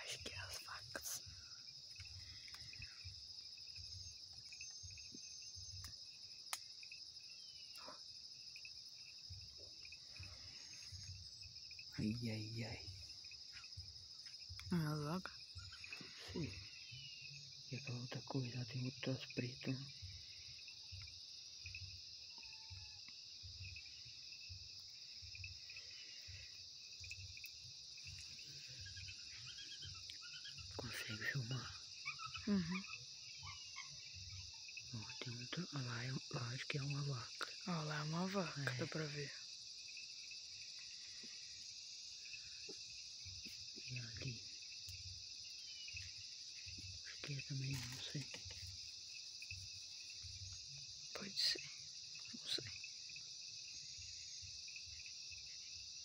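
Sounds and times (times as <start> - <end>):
crickets chirping: 0.0 - 56.0
pulsing insect trill: 0.0 - 56.0.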